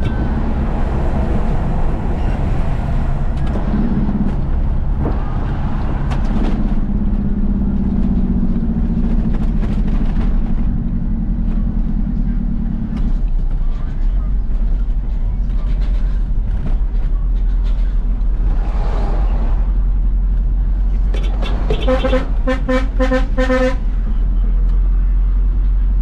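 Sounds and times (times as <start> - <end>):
road and cab rumble: 0.0 - 26.0
truck diesel engine running: 0.0 - 26.0.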